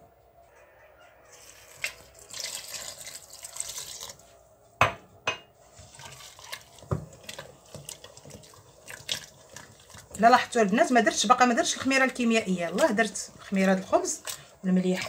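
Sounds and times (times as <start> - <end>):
water pouring into steel bowl: 1.3 - 4.3, 5.8 - 15.0
hand mixing wet batter: 1.5 - 4.4, 5.6 - 15.0.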